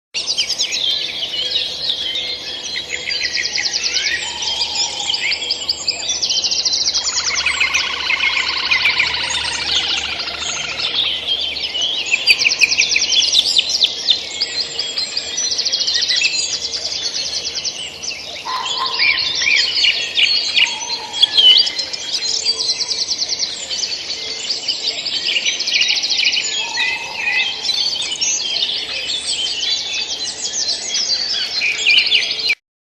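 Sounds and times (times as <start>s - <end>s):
lower fuller bird call: 0.2s - 32.6s
songbirds chirping and trilling: 0.2s - 32.6s.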